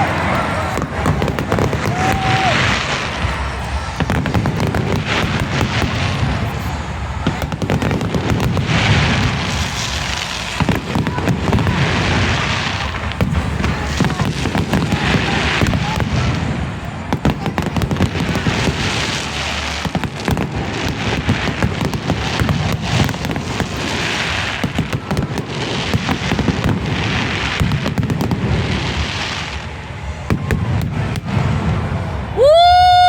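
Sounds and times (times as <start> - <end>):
fireworks booms: 0.0 - 33.0
fireworks crackling and popping: 0.0 - 33.0.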